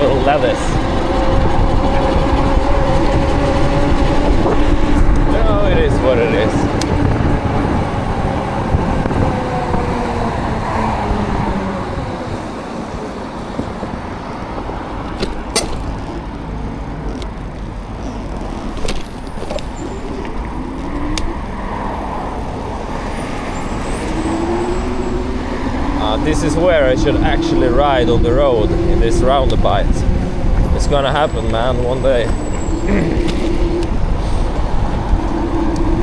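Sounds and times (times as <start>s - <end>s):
low rumble: 0.0s - 36.0s
traffic on wet street: 0.0s - 36.0s.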